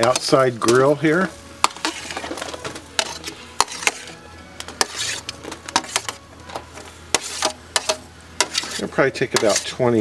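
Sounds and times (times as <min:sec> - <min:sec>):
metal tongs scraping a tray: 0:00.0 - 0:10.0
soft music: 0:00.0 - 0:10.0.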